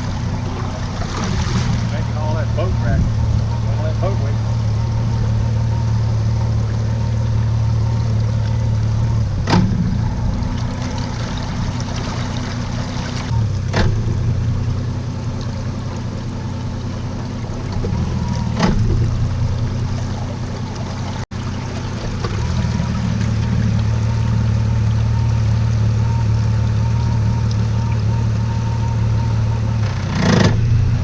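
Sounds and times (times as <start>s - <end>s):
boat motor running: 0.0s - 31.0s
water splashing against hull: 0.0s - 31.0s.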